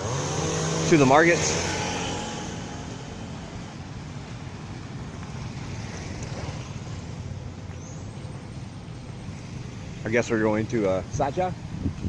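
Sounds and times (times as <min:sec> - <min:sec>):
motorbike engine humming: 0:00.0 - 0:10.0
road and wind noise: 0:00.0 - 0:12.0.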